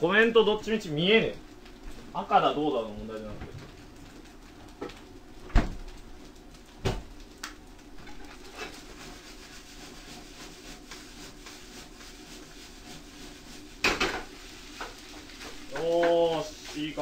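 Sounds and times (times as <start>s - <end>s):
gas stove hiss: 0.0s - 17.0s.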